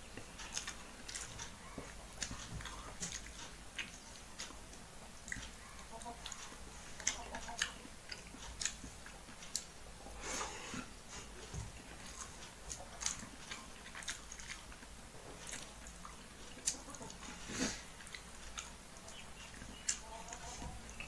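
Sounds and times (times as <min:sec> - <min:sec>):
person chewing: 0:00.0 - 0:21.0.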